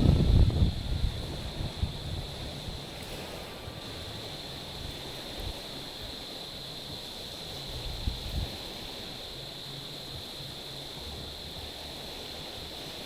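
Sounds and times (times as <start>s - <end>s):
faint steady high hiss: 0.0s - 13.0s
small waves lapping on stony shore: 0.3s - 13.0s.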